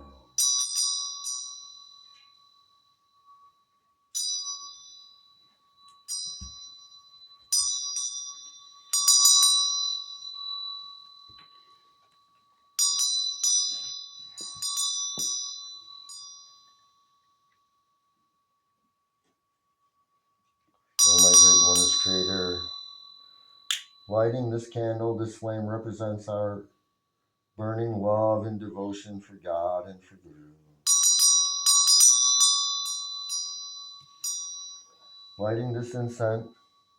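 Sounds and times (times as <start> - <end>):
small hand bell ringing: 0.0 - 25.9, 30.8 - 36.9
faint steady tone: 0.0 - 36.9.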